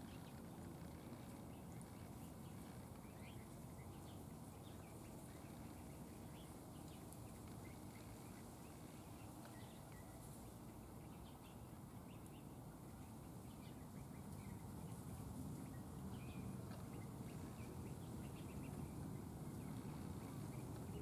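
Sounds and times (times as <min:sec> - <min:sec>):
low steady background noise: 0:00.0 - 0:21.0
small birds chirping: 0:00.0 - 0:21.0.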